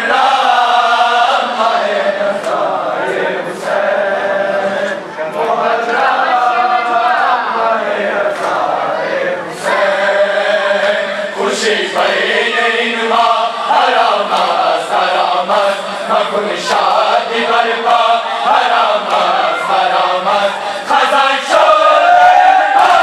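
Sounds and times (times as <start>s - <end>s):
crowd of men chanting: 0.0s - 23.0s.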